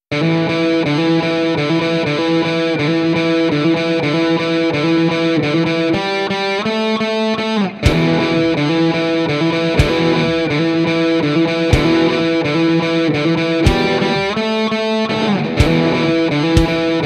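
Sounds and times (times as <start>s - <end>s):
distorted electric guitar music: 0.1s - 17.0s.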